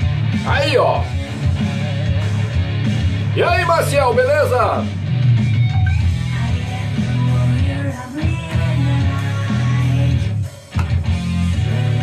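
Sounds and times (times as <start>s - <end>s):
rock song with guitar: 0.0s - 12.0s.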